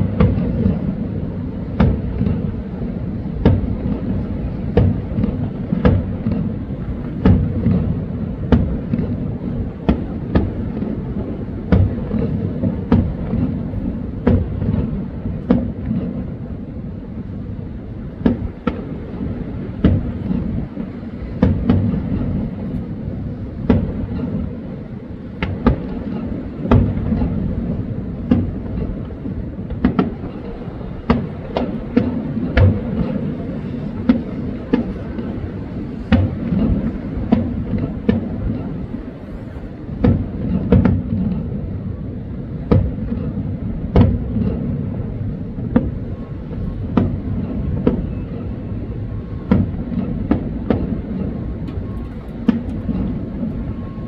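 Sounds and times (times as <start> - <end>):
continuous low rumble: 0.0 - 54.0
fireworks booming: 0.0 - 54.0.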